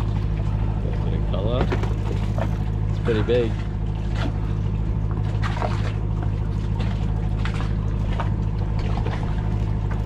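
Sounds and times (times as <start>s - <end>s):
low hum of boat machinery: 0.0s - 10.0s
water splashing: 0.0s - 10.0s.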